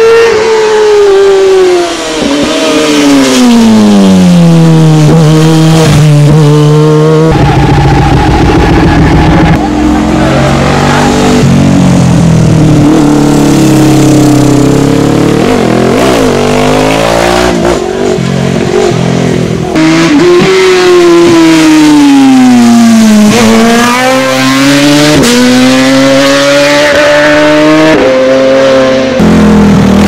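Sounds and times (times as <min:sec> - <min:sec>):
racing motorcycle engine: 0:00.0 - 0:30.0.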